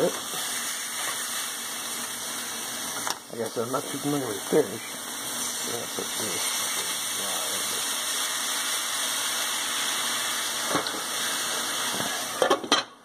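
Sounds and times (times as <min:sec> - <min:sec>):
fish sizzling in a frying pan: 0:00.0 - 0:12.5.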